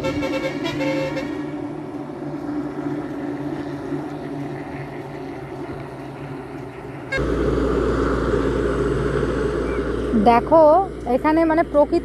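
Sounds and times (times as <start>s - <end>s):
loud low rumble: 0.0s - 12.0s
motor engine humming: 0.0s - 12.0s.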